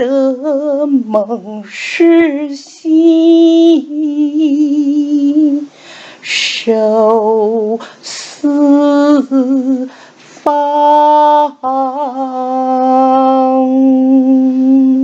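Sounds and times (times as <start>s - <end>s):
woman chanting verse: 0.0s - 15.0s.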